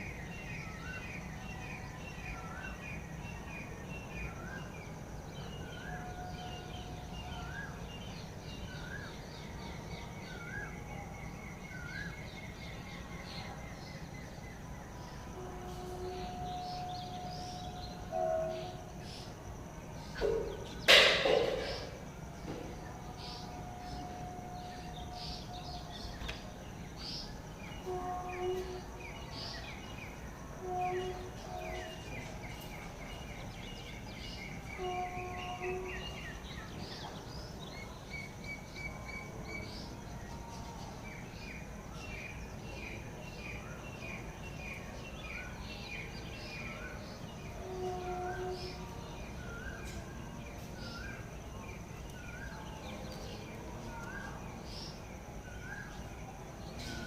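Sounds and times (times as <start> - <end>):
high insect hum: 0.0 - 57.0.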